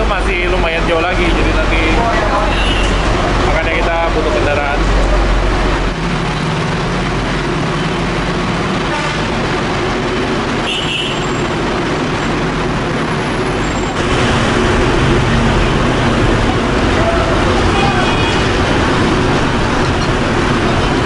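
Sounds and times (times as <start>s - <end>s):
heavy vehicle engines running: 0.0s - 21.0s
loud noisy rush: 0.0s - 21.0s.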